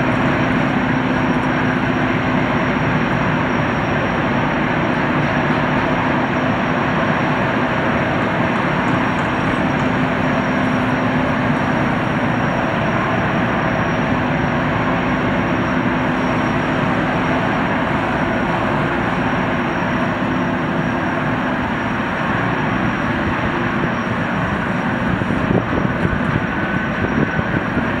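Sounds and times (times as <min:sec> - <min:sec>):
thin high whine: 0:00.0 - 0:27.3
hydrofoil engines rushing: 0:00.0 - 0:28.0.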